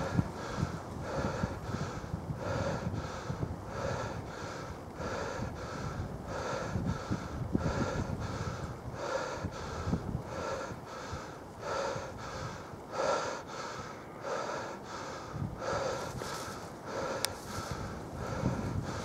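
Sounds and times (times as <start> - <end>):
person breathing heavily: 0.0 - 19.0
wind buffeting microphone: 0.0 - 19.0.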